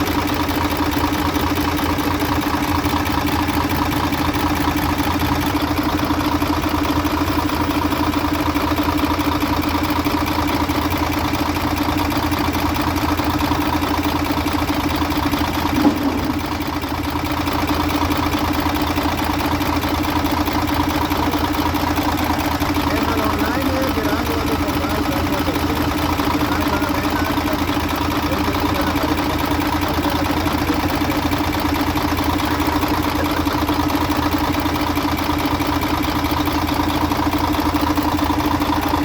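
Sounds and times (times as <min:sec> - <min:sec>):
truck diesel engine idling: 0:00.0 - 0:39.0.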